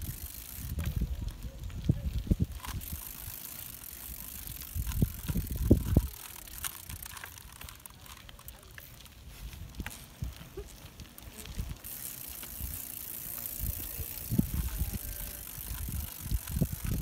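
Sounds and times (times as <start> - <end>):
bicycle rolling on asphalt: 0.0 - 17.0.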